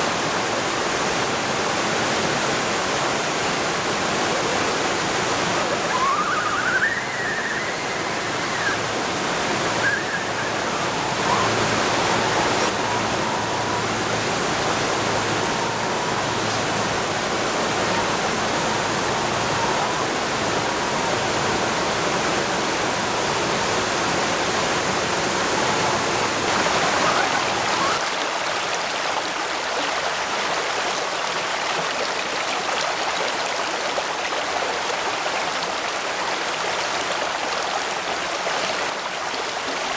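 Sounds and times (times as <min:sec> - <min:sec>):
river water rushing over rock: 0:00.0 - 0:39.9.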